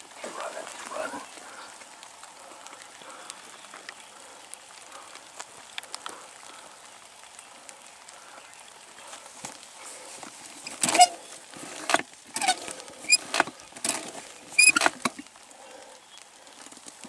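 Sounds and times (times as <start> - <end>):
light rain hissing: 0.0 - 17.0
raindrops ticking: 0.0 - 17.0.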